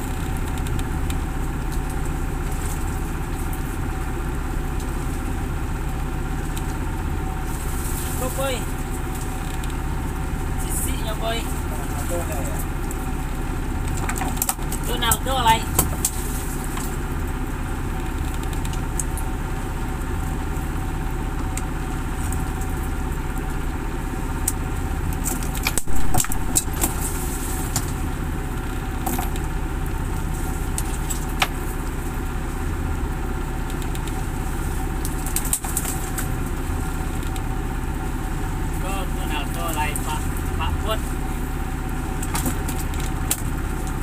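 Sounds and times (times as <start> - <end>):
motor boat engine humming: 0.0 - 44.0.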